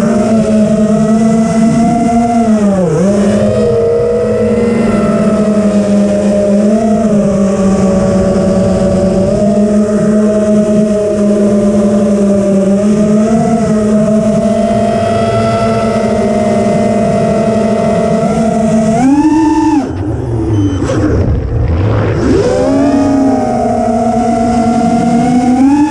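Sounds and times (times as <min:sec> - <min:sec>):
drone propellers whirring: 0:00.0 - 0:25.9.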